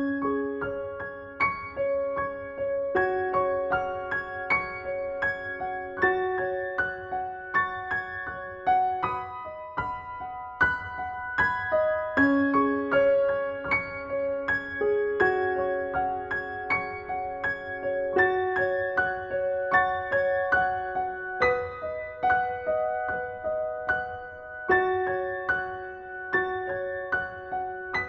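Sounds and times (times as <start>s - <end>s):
soft keyboard melody: 0.0s - 28.0s.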